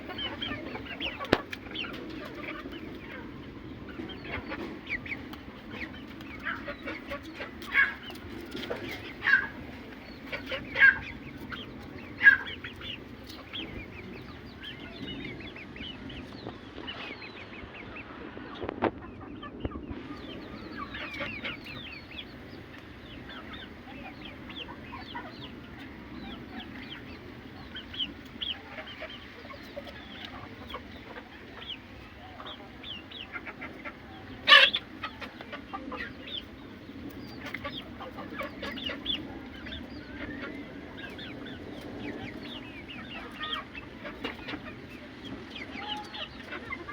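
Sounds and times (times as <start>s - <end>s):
sharp chicken calls: 0.0s - 15.9s, 16.7s - 46.9s
chickens clucking: 0.0s - 46.9s.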